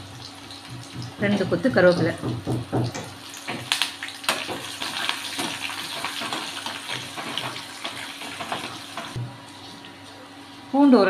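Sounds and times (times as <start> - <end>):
oil sizzling with pops: 0.0 - 10.0.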